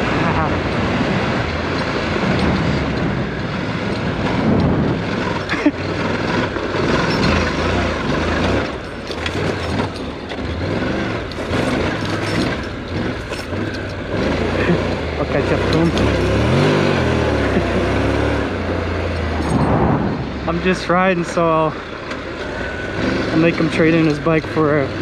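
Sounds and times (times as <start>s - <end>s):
motorcycle engine running: 0.0s - 25.0s
rumble of dirt track riding: 0.0s - 25.0s.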